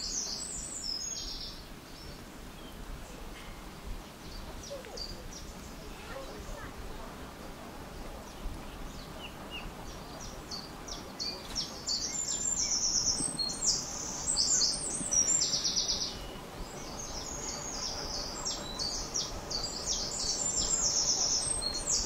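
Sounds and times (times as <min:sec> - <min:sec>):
low outdoor background: 0:00.0 - 0:22.0
songbirds chirping and trilling: 0:00.0 - 0:22.0.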